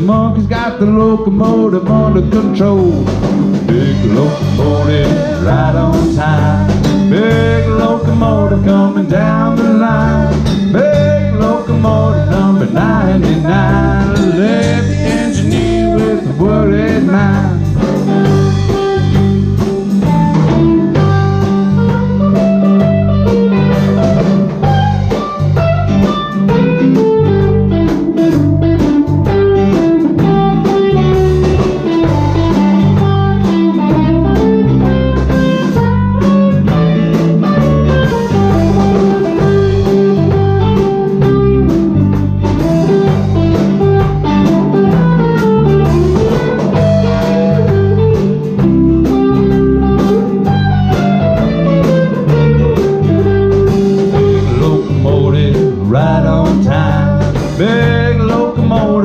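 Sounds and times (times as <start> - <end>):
bass: 0.0 - 59.0
drums: 0.0 - 59.0
guitar lead line: 0.0 - 59.0.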